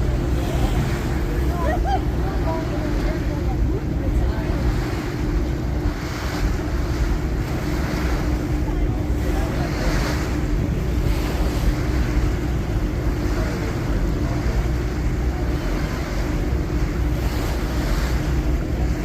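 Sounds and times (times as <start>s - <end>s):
boat engine hum: 0.0s - 19.0s
water noise: 0.0s - 19.0s
wind buffeting microphone: 0.0s - 19.0s.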